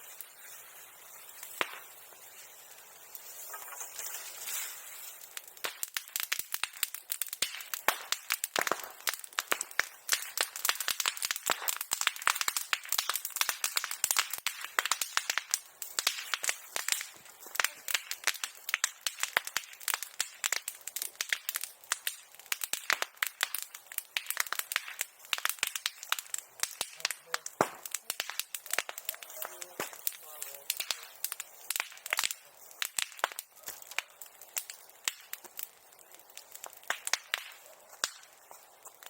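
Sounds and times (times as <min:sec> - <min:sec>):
bonfire crackling and popping: 0:00.0 - 0:39.0.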